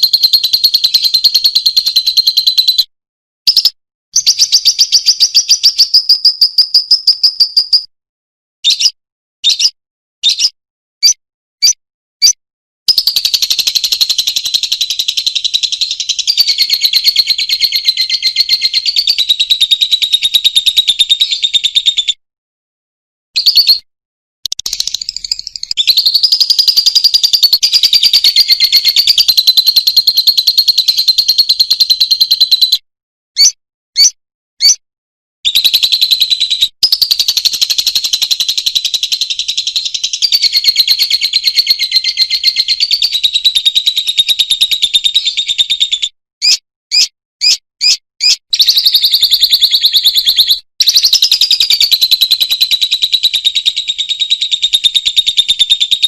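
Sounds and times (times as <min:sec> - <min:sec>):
lovebird chattering trill: 0:03.5 - 0:07.9, 0:08.6 - 0:22.1, 0:24.4 - 0:32.8, 0:33.4 - 0:34.8, 0:35.5 - 0:56.0.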